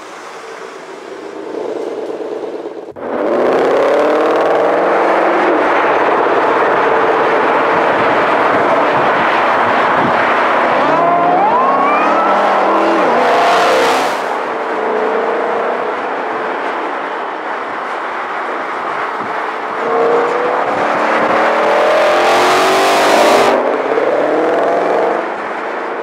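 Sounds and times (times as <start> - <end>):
car engine running under load: 0.0 - 26.0.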